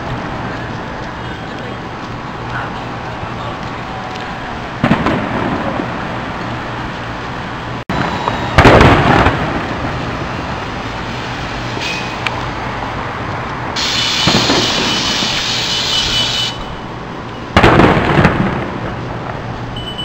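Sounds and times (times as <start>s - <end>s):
fireworks bursting: 0.0s - 19.8s
background noise: 0.0s - 20.0s.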